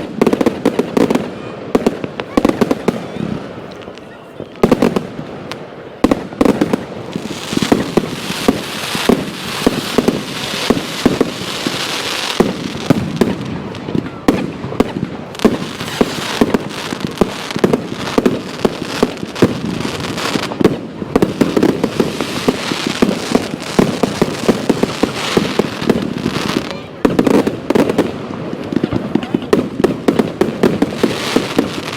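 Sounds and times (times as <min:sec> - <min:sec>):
fireworks bangs: 0:00.0 - 0:31.9
fireworks crackle: 0:00.0 - 0:31.9.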